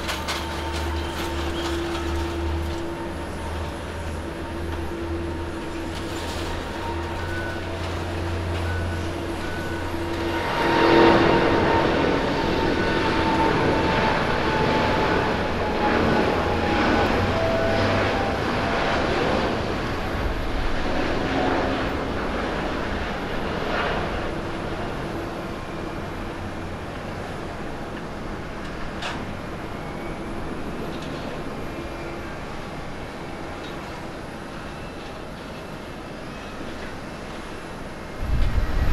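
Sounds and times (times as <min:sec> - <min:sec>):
jet engines at takeoff: 0:00.0 - 0:38.9.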